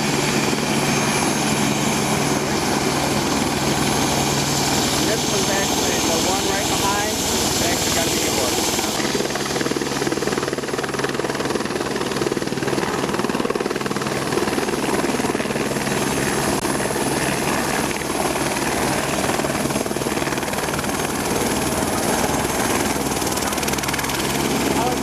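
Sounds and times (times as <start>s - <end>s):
helicopter running: 0.0s - 25.0s.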